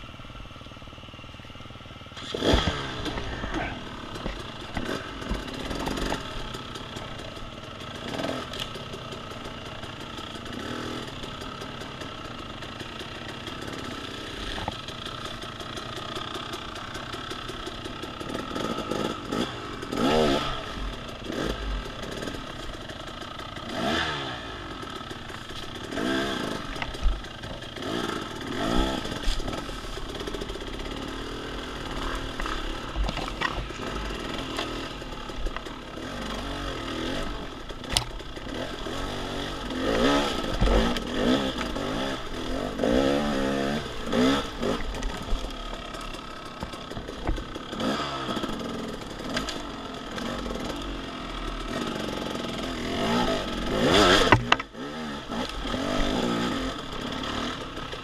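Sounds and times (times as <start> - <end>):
dirt bike engine revving: 2.0 - 58.0.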